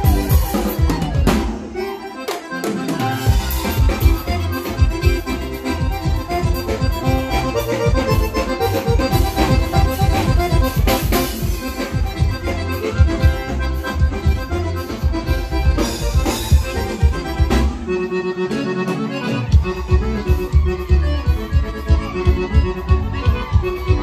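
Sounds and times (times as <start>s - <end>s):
accordion-voiced keyboard lead: 0.0s - 24.0s
bass: 0.0s - 24.0s
drum kit dance beat: 0.0s - 24.0s.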